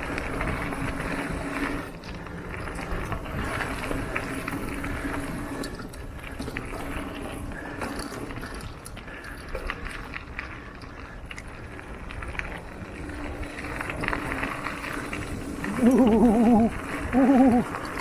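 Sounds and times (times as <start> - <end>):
bike chain and frame rattling: 0.0 - 18.0
bike tyres rumbling on dirt: 0.0 - 18.0.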